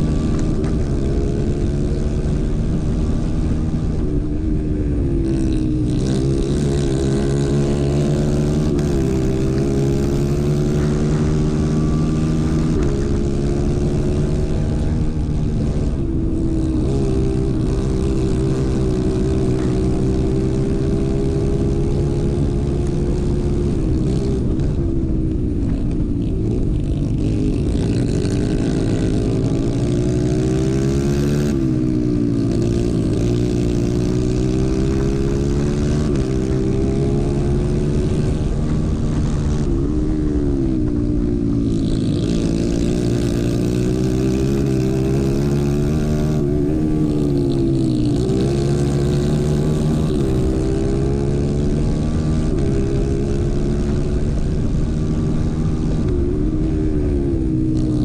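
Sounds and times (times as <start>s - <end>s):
racing kart engine at full throttle: 0.0s - 58.0s.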